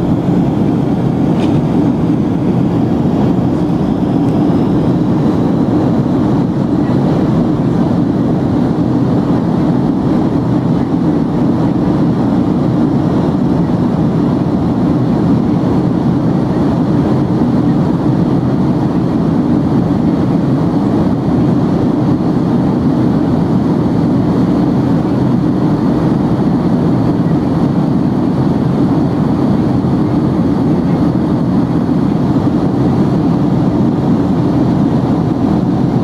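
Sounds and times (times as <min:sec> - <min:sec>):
airplane cabin rumble: 0:00.0 - 0:36.0.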